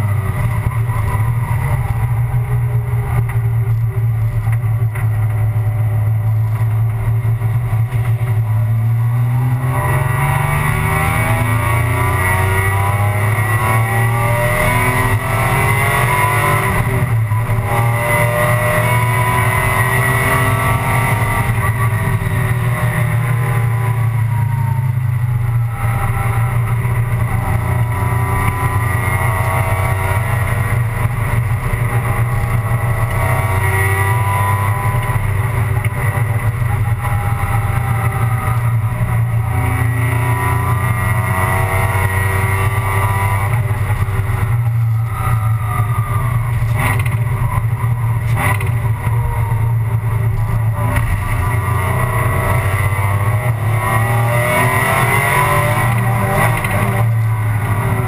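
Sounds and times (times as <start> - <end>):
race car engine at full throttle: 0.0 - 58.0
wind and road noise: 0.0 - 58.0.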